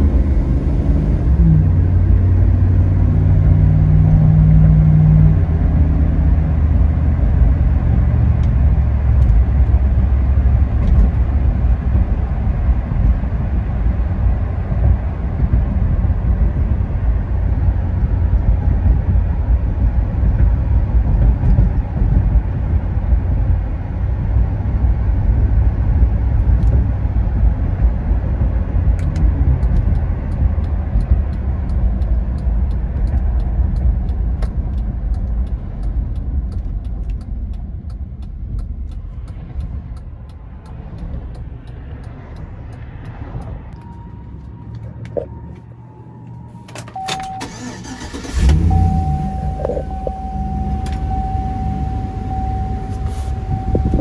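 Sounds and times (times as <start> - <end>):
car engine drone: 0.0 - 54.0
road noise: 0.0 - 54.0.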